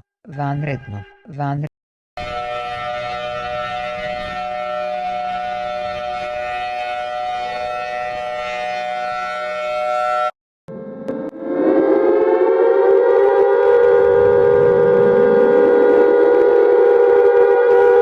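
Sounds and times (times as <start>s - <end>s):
emergency alert alarm tone: 2.2s - 18.0s.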